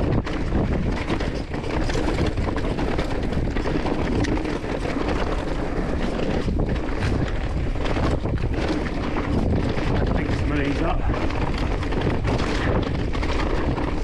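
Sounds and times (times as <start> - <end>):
bike rattling over rocky trail: 0.0 - 14.0
wind buffeting microphone: 0.0 - 14.0.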